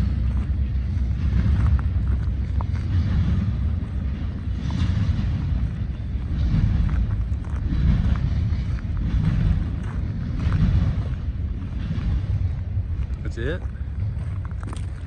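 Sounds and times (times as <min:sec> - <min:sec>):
freight train rumble: 0:00.0 - 0:15.0
wind buffeting microphone: 0:00.0 - 0:15.0.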